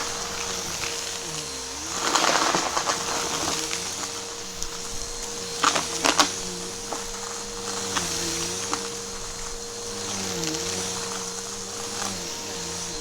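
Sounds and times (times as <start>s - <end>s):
debris crunching in vacuum: 0.0s - 13.0s
vacuum cleaner motor whine: 0.0s - 13.0s.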